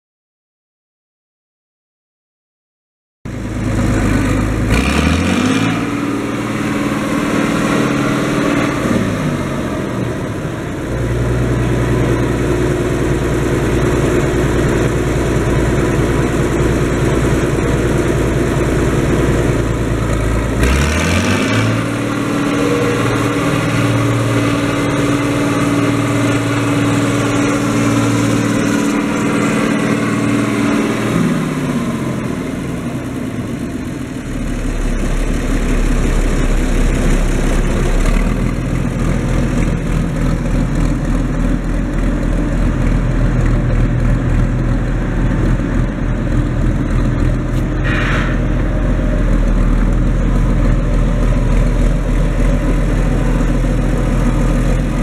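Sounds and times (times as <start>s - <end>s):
tractor diesel engine revving: 3.3s - 55.0s.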